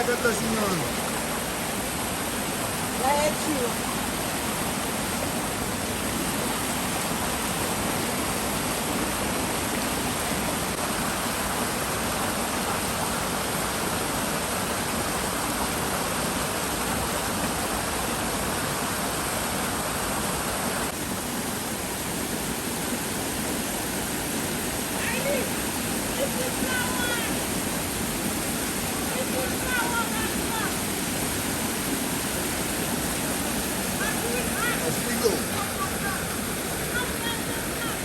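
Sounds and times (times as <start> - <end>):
river rushing over rocks: 0.0 - 38.0.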